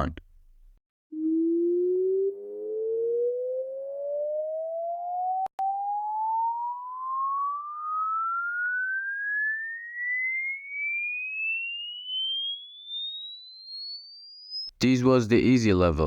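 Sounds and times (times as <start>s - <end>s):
sine tone sweeping upward: 1.1s - 14.7s.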